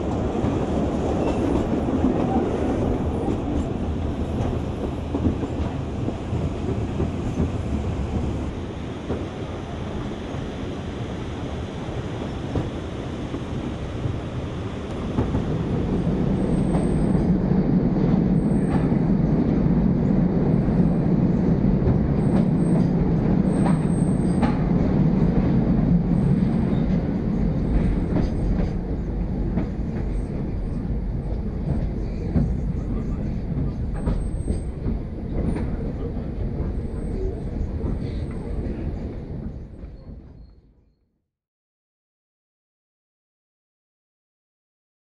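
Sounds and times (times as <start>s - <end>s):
rumble of wheels on track: 0.0s - 40.9s.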